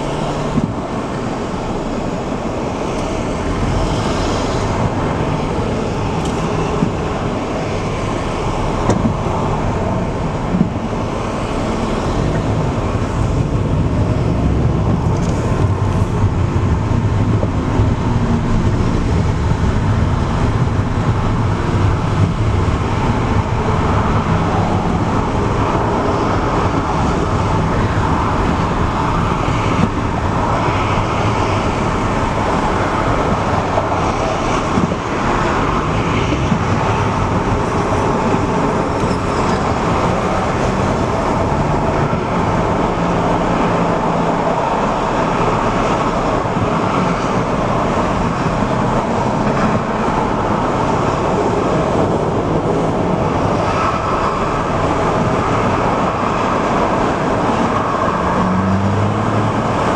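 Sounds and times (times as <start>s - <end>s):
car road noise from inside: 0.0s - 59.9s.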